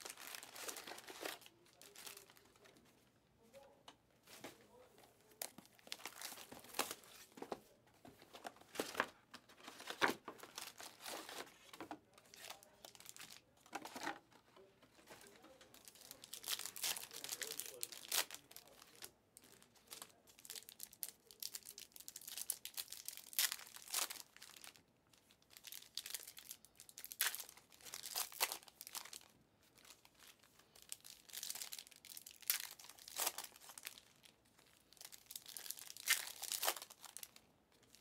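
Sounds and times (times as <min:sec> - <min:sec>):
foil wrappers crinkling: 0:00.0 - 0:02.7, 0:08.4 - 0:14.2, 0:15.0 - 0:24.8, 0:25.4 - 0:38.0.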